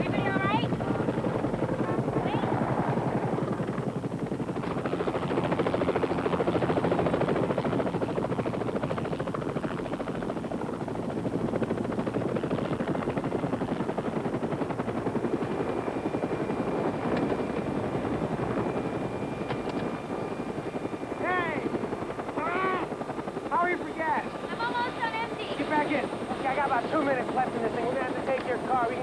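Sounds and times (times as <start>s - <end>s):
helicopter rotor blades chopping: 0.0s - 29.0s.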